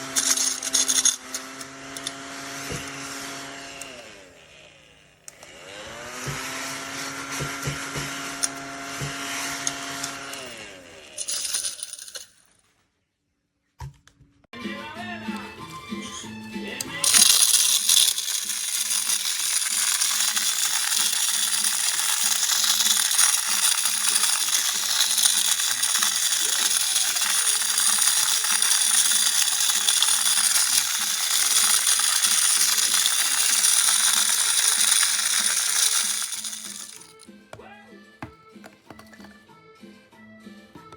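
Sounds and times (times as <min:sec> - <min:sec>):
mini vacuum cleaner whining: 0:00.0 - 0:12.2, 0:15.4 - 0:37.2, 0:38.2 - 0:39.4.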